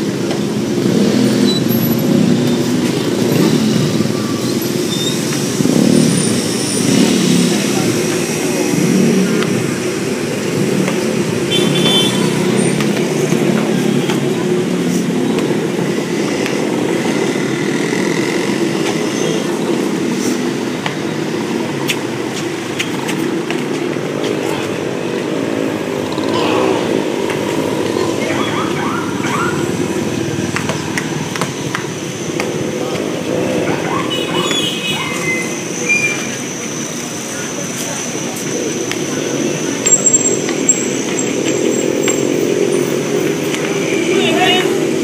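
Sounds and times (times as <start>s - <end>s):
road traffic: 0.0s - 45.0s
vehicle engine running: 0.0s - 45.0s.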